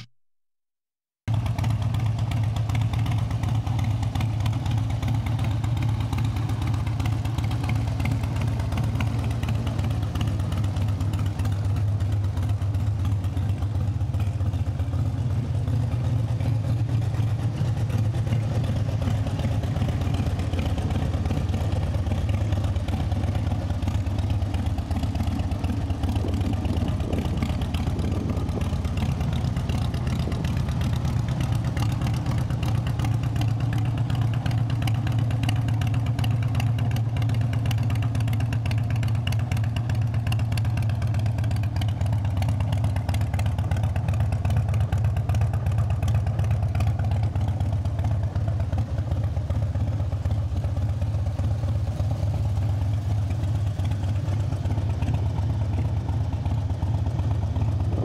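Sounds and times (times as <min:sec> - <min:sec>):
motorcycle engine idling: 0:01.3 - 0:58.0.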